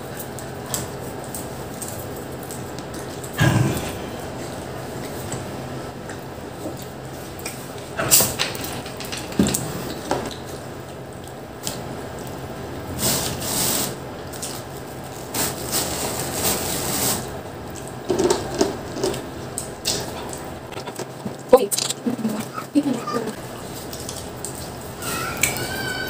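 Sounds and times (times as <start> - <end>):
chewing pizza: 0.0 - 13.0, 17.3 - 26.0.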